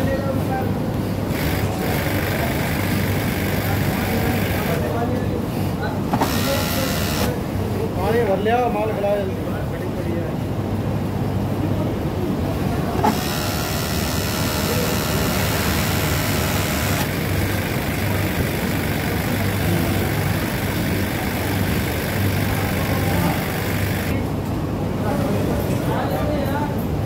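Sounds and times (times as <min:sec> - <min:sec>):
industrial sewing machines humming: 0:00.0 - 0:08.4, 0:10.8 - 0:24.3.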